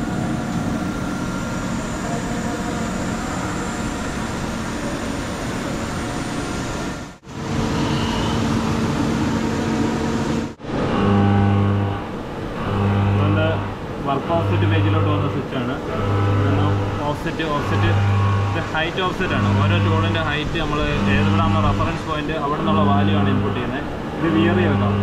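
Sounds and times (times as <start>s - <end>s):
deeper machine hum: 0.0s - 25.0s
machine motors humming and whirring: 0.0s - 25.0s.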